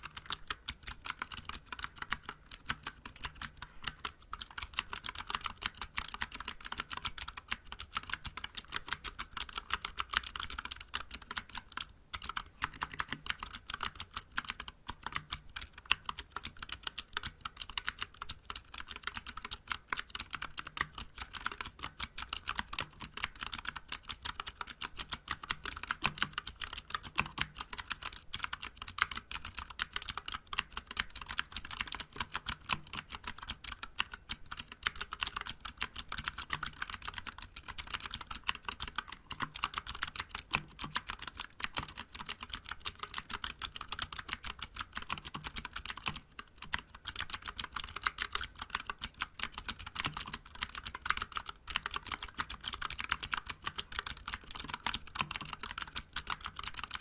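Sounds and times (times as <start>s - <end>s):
clicky mechanical keyboard typing: 0.0s - 57.0s.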